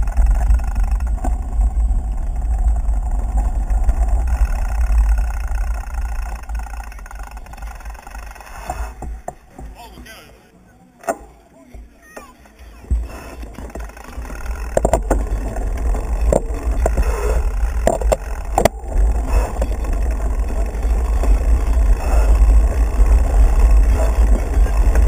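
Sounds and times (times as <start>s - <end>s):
wind rumbling over microphone: 0.0s - 9.3s, 14.1s - 25.0s
bike clicks and knocks: 0.0s - 10.3s, 11.0s - 25.0s.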